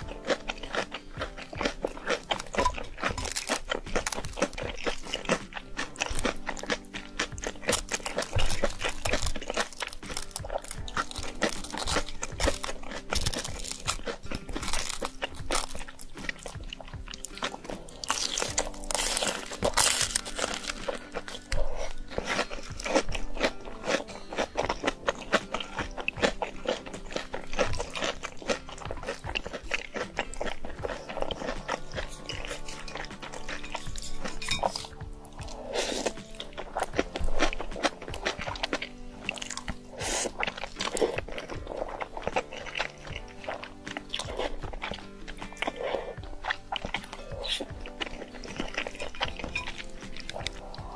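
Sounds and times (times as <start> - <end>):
background music: 0.0 - 50.9
person crunching and chewing noodles: 0.0 - 50.9.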